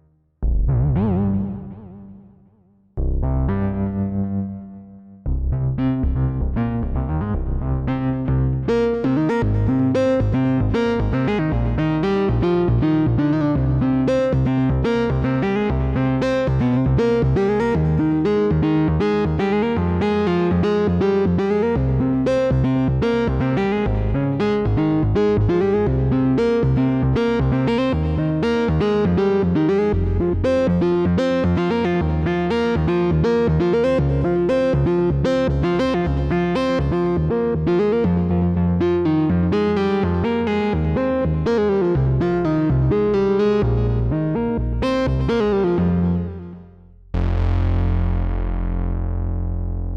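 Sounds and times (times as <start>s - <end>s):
synth bass line: 0.4s - 49.9s.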